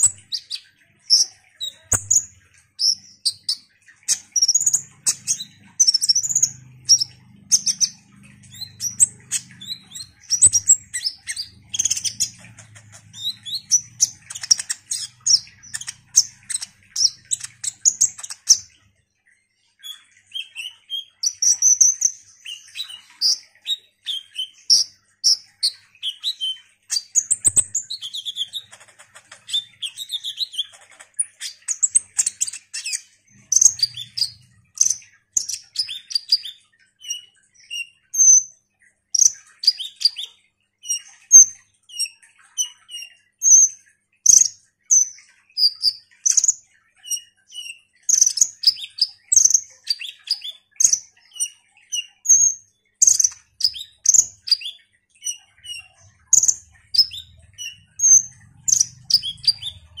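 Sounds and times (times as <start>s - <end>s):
bird chirping and trilling: 0.0s - 60.0s.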